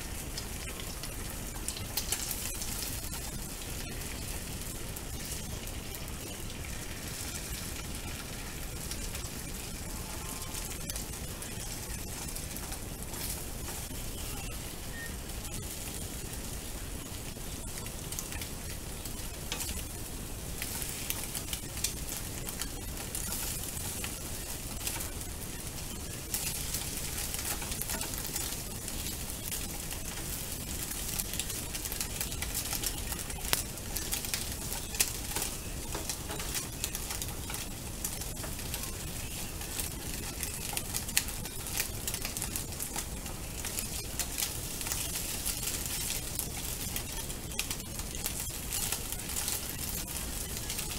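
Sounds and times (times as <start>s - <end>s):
egg sizzling in a frying pan: 0.0s - 50.9s.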